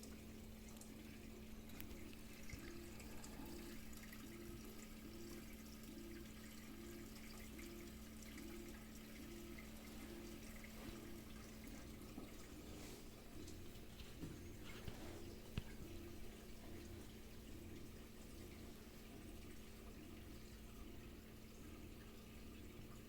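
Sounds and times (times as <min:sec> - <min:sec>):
low pump hum: 0:00.0 - 0:23.0
water trickling and dripping: 0:00.0 - 0:23.0.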